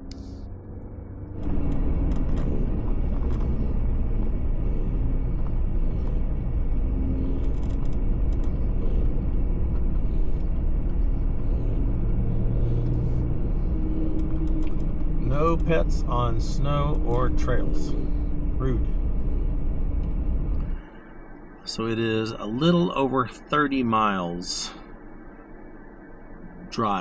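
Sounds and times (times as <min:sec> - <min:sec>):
faint hum: 0:00.0 - 0:27.0
road noise: 0:00.0 - 0:27.0
vehicle engine rumble: 0:00.0 - 0:27.0.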